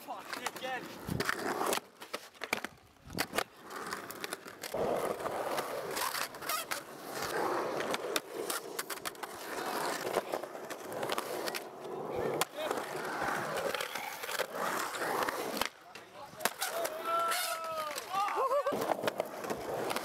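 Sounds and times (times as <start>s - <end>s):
skateboard wheels rolling on concrete: 0.0s - 20.0s.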